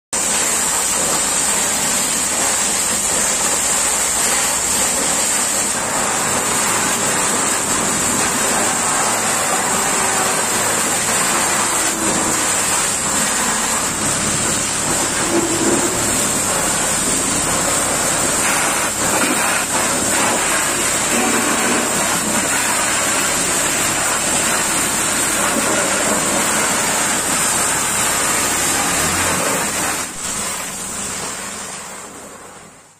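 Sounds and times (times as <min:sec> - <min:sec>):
water jets spraying on metal: 0:00.2 - 0:32.9.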